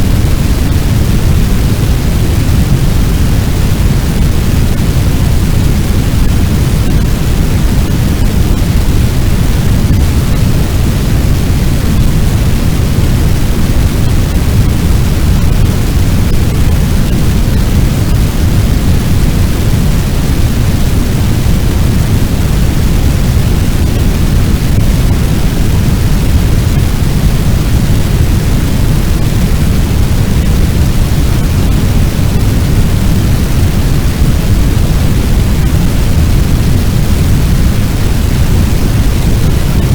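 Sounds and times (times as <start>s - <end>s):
fire roaring: 0.0s - 39.9s.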